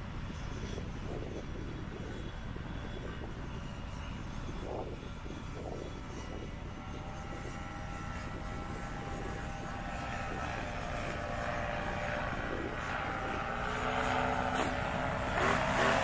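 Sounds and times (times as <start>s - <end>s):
paramotor engine and propeller humming: 0.0s - 16.0s.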